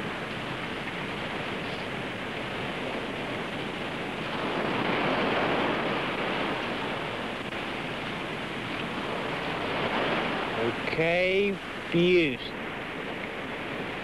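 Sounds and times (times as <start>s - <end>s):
waves breaking on a beach: 0.0s - 14.0s.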